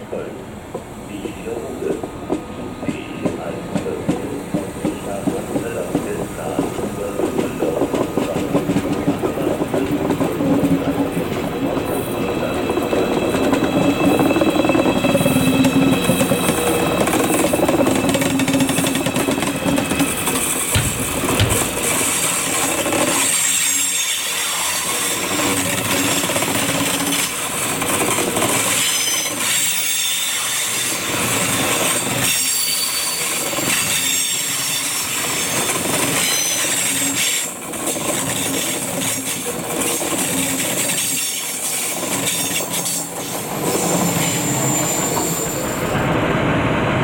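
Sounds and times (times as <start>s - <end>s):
train wheels rolling on rail: 0.1s - 47.0s.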